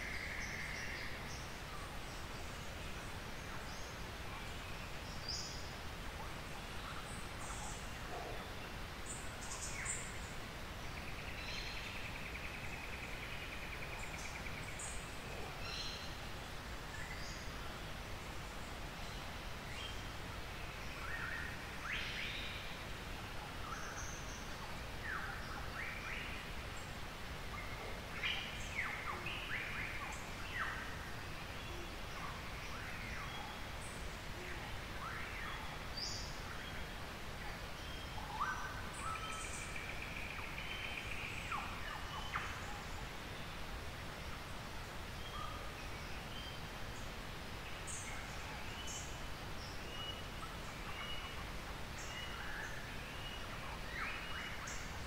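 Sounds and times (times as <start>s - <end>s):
forest birds chirping: 0.0s - 55.0s
low background noise: 0.0s - 55.0s.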